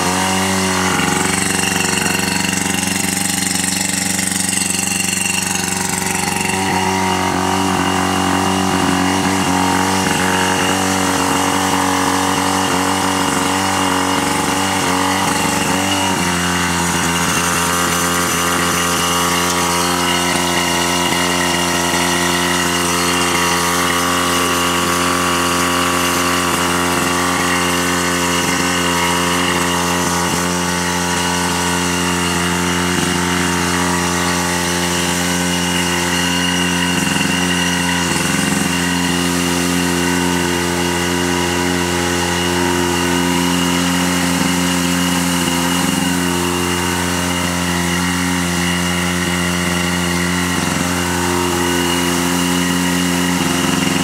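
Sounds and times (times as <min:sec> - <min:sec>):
fire pump engine running: 0:00.0 - 0:54.0.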